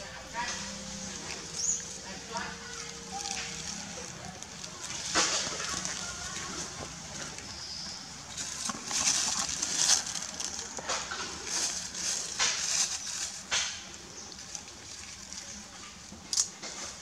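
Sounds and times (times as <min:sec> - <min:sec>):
dry leaves rustling and crackling: 0:00.0 - 0:17.0.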